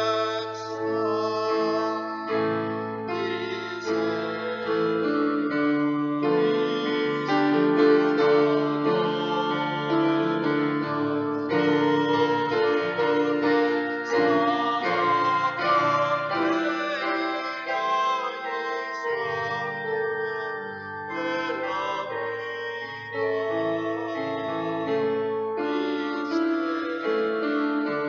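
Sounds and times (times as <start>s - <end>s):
digital piano chords: 0.0s - 28.0s
man singing hymn: 0.0s - 28.0s.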